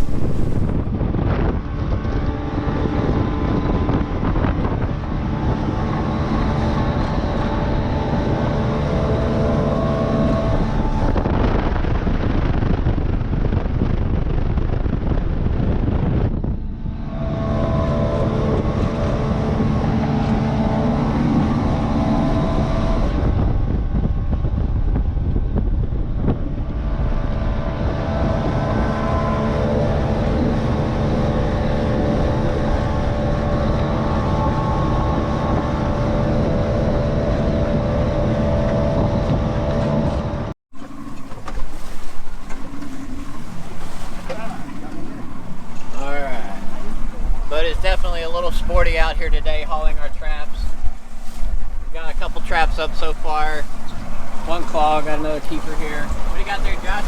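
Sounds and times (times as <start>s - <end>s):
boat engine running: 0.0s - 57.0s
wind buffeting microphone: 0.0s - 57.0s.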